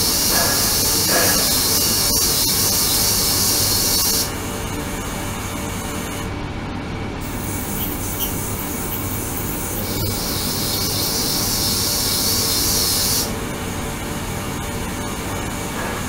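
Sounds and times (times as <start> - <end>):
ultrasonic cleaner hissing buzz: 0.0 - 6.3, 7.2 - 16.0.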